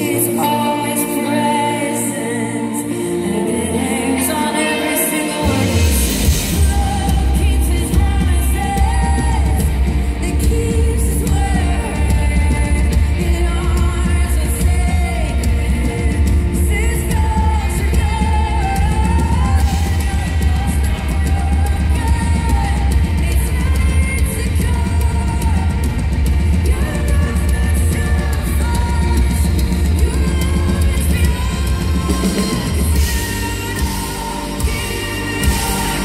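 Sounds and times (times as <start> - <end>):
full band playing: 0.0 - 36.0
woman singing into microphone: 0.0 - 36.0.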